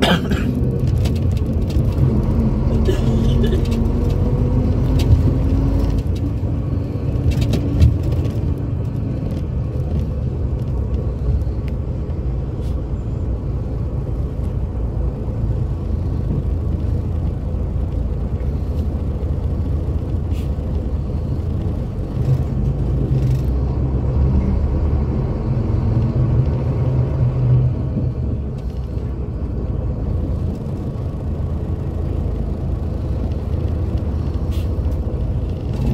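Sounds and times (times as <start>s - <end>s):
coach engine rumbling: 0.0s - 35.9s.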